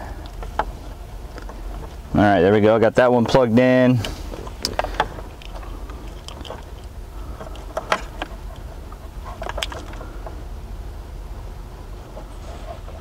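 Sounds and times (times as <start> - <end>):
steady low hum: 0.0 - 13.0
wires rustling: 0.0 - 13.0.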